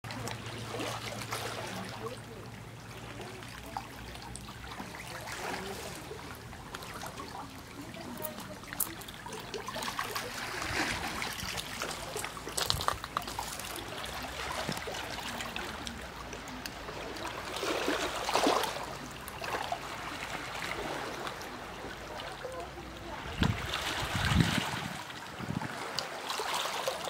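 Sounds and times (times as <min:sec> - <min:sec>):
water trickling among stones: 0:00.0 - 0:27.0
small waves lapping on pebbles: 0:00.1 - 0:27.0.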